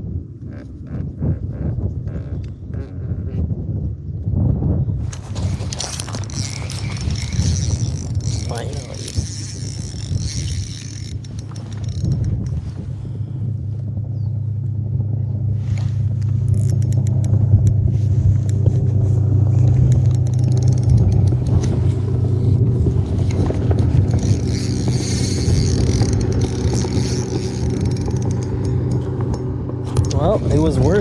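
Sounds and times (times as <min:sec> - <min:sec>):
motorboat engine droning: 0:05.2 - 0:31.0.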